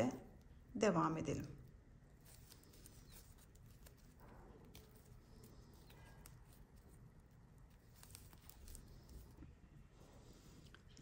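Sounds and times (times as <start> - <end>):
yarn rustling through stitches: 0.0 - 11.0.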